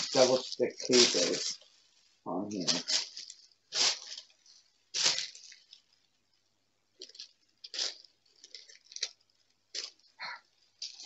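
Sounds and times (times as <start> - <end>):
crinkly sheet rustling: 0.0 - 11.0.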